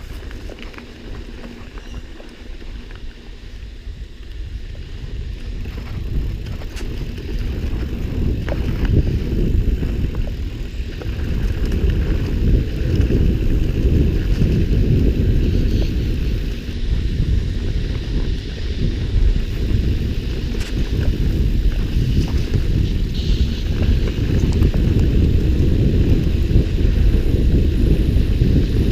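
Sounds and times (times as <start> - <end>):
bike tyre rumble on dirt: 0.0 - 28.9
wind buffeting microphone: 0.0 - 28.9.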